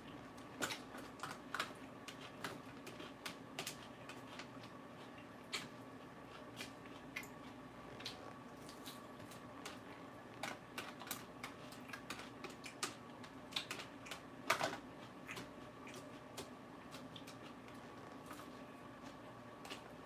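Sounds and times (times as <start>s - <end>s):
faint steady hum: 0.0s - 20.0s
lettuce crunching while chewed: 0.0s - 20.0s.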